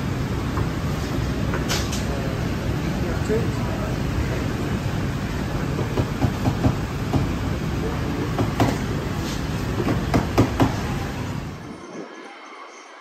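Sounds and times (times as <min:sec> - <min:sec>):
busy food centre din: 0:00.0 - 0:13.0.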